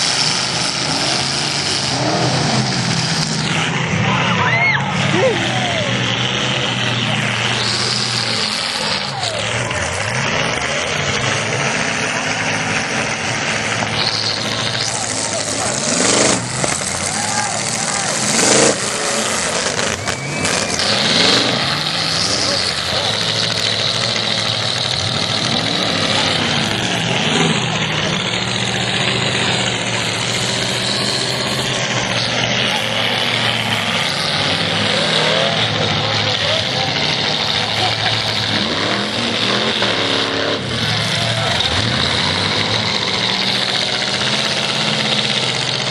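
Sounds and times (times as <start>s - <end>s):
car engines running: 0.0s - 45.9s.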